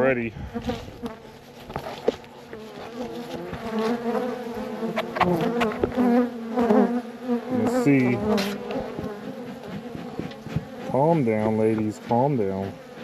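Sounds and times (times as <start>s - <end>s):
bees buzzing: 0.4s - 13.0s.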